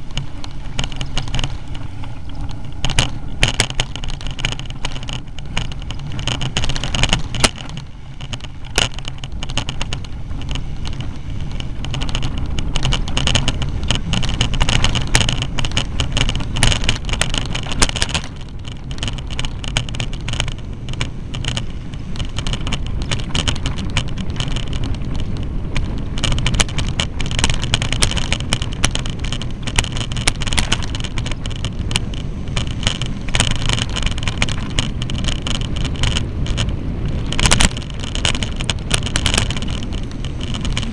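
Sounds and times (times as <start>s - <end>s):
bicycle knocks and rattles: 0.0s - 40.9s
bicycle tyres rolling on dirt: 0.0s - 40.9s
wind rumble: 0.0s - 40.9s.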